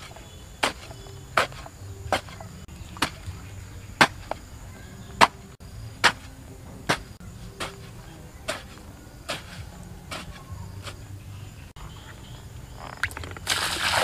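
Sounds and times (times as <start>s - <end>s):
hoe chopping dry soil: 0.0s - 11.8s, 13.3s - 14.0s.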